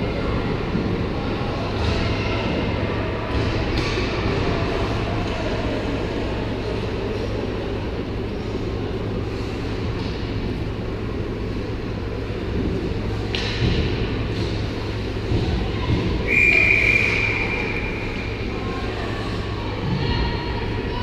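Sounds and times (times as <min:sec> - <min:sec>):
ice hockey arena din: 0:00.0 - 0:21.0.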